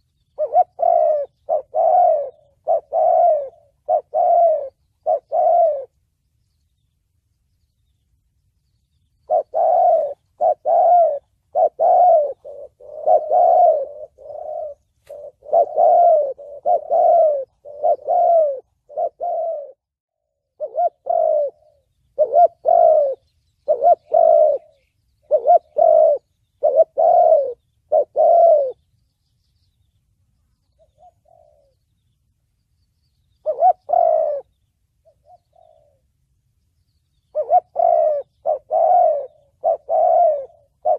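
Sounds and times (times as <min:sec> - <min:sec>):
dove cooing: 0:00.0 - 0:06.0, 0:09.2 - 0:28.9, 0:30.7 - 0:32.0, 0:33.3 - 0:36.2, 0:37.2 - 0:40.9.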